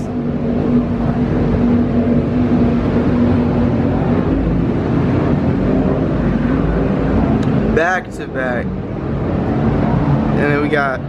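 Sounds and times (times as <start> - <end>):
powerboat engines droning: 0.0 - 11.0.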